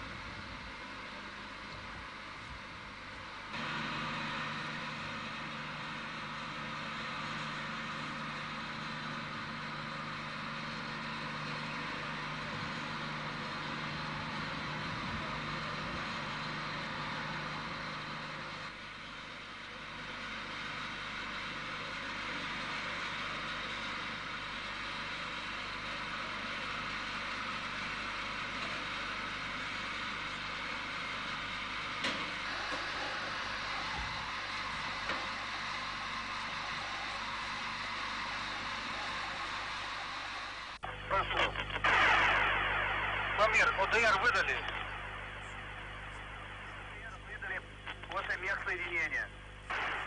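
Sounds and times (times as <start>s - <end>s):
machinery running with hiss and hum: 0.0s - 50.0s.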